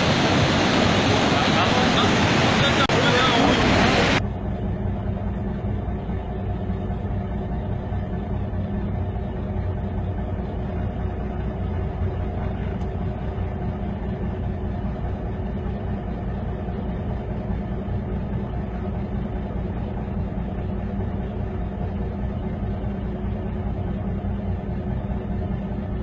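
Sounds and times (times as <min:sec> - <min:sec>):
heavy machinery engine rumble: 0:00.0 - 0:26.0.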